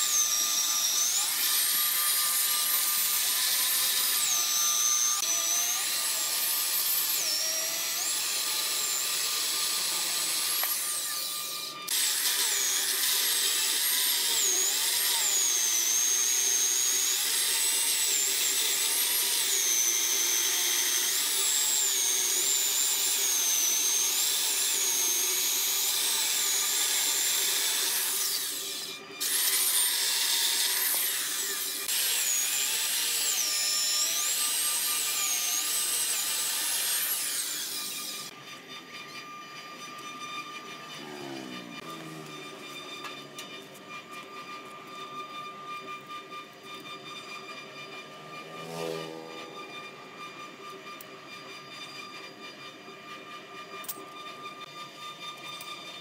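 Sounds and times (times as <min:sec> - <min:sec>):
electric chainsaw cutting log: 0:00.0 - 0:56.0.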